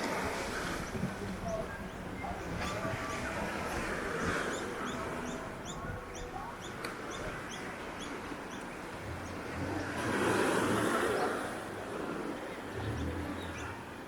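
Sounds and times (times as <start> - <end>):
broad rush of noise: 0.0 - 14.0.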